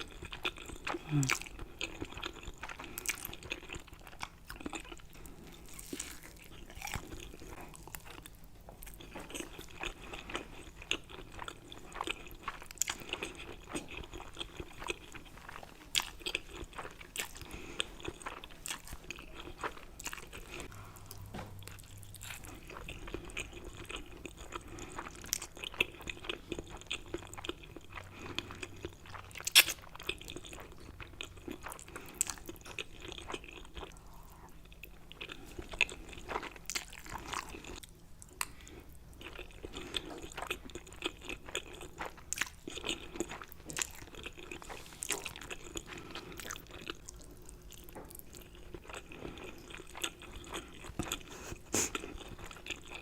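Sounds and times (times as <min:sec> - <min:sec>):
person chewing and biting: 0:00.0 - 0:53.0.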